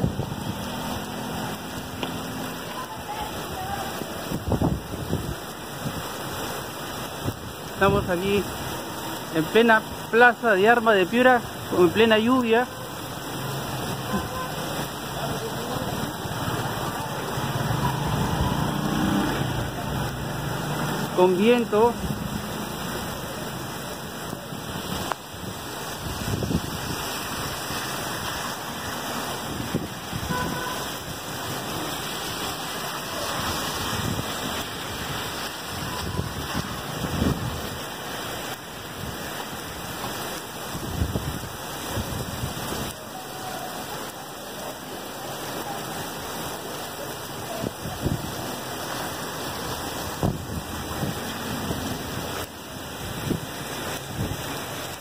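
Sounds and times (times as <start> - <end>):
wind rumbling on microphone: 0.0 - 9.3, 13.0 - 21.2, 21.9 - 43.0, 47.3 - 55.0
heavy rain on pavement: 0.0 - 55.0.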